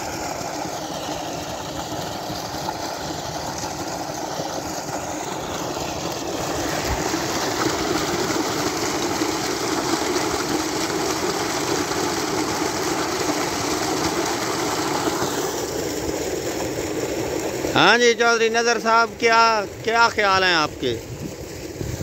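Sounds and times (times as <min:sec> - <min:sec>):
water gushing into tank: 0:00.0 - 0:22.0.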